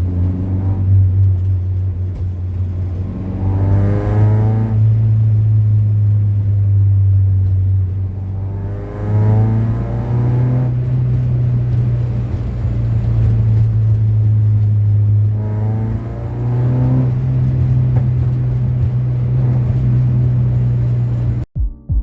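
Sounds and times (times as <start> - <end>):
car engine accelerating: 0.0 - 21.5.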